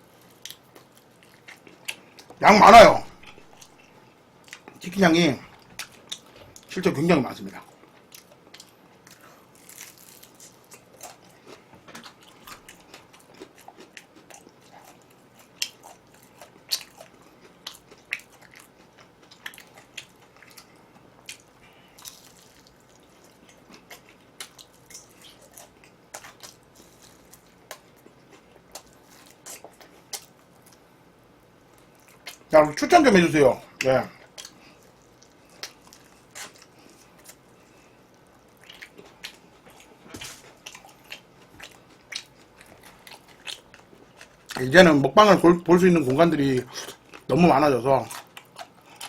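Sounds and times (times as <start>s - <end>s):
crunchy chewing: 0.0s - 2.4s, 7.5s - 30.9s, 33.7s - 44.9s, 46.0s - 49.0s.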